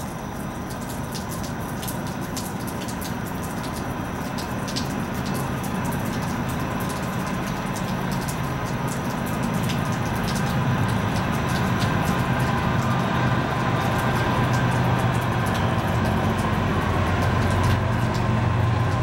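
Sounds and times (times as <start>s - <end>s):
diesel locomotive engine rumble: 0.0s - 19.0s.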